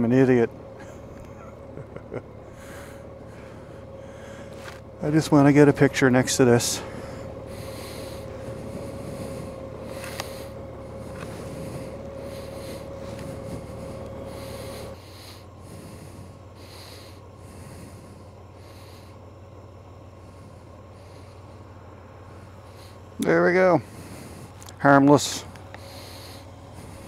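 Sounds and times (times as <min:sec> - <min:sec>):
motorcycle engine idling: 0:00.0 - 0:27.0
short breaths: 0:02.5 - 0:05.0, 0:06.8 - 0:27.0.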